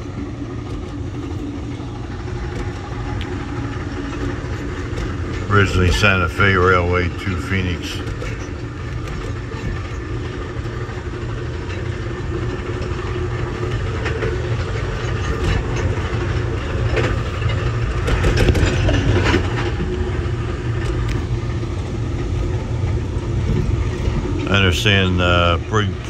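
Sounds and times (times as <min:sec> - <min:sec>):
train wheels rumbling on rails: 0:00.0 - 0:26.0
wheels clacking over track switches: 0:00.0 - 0:26.0.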